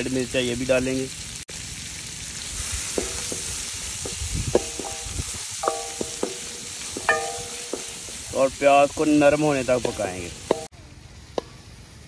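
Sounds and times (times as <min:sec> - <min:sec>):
vegetables sizzling in butter: 0:00.0 - 0:12.0.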